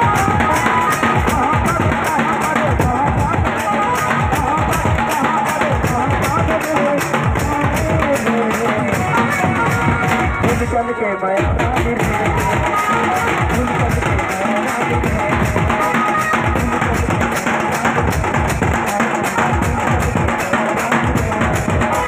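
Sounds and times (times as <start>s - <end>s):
drum beaten with sticks: 0.0s - 22.0s.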